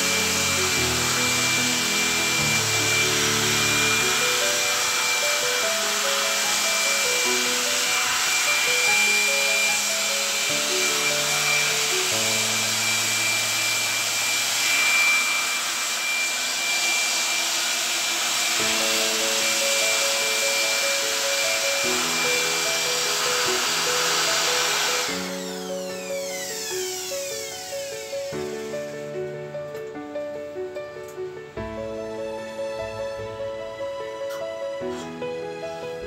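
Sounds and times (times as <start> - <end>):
background piano music: 0.0 - 16.2, 18.3 - 36.0
motor-driven cleaning tool hissing: 0.0 - 29.4.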